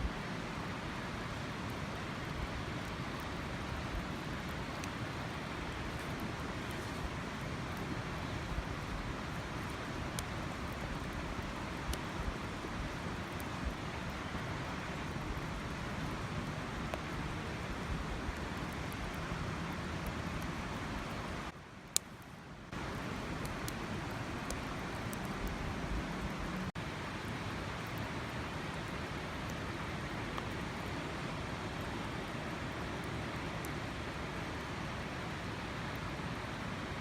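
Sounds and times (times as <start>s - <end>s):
steady rushing outdoor noise: 0.0s - 37.0s
campfire crackling and popping: 0.1s - 37.0s.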